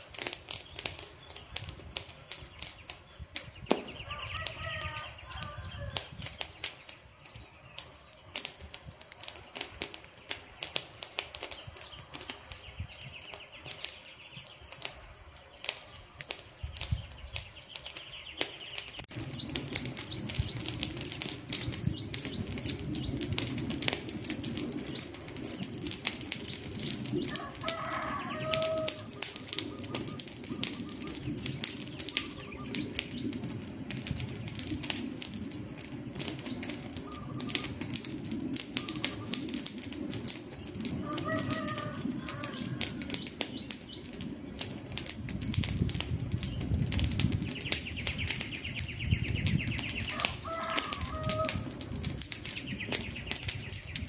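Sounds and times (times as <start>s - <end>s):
campfire crackling and popping: 0.0s - 54.0s
rush of flames: 0.0s - 54.0s.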